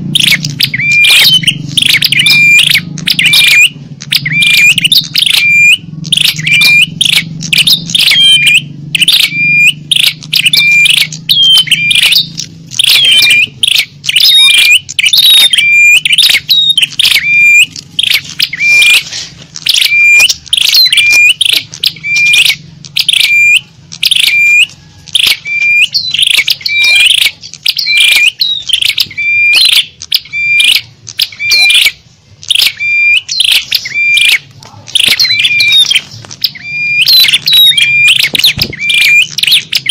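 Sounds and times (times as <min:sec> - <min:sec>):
bird lure chirping calls: 0:00.0 - 0:39.9.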